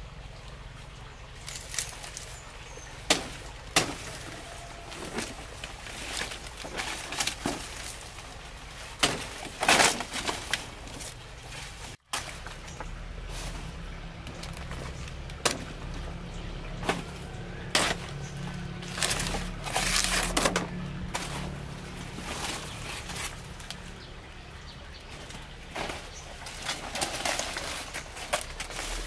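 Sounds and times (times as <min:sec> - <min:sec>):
leaves rustling and snapping: 0:01.4 - 0:29.0.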